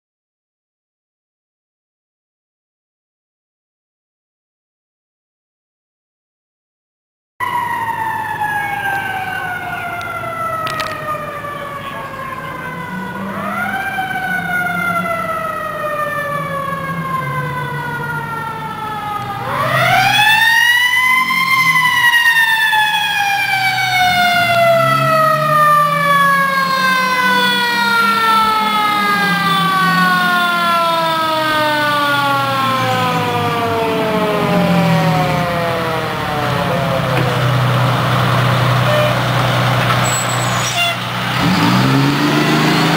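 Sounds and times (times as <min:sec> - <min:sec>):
fire engine siren wailing: 0:07.4 - 0:42.9
truck engine hum: 0:07.5 - 0:42.9.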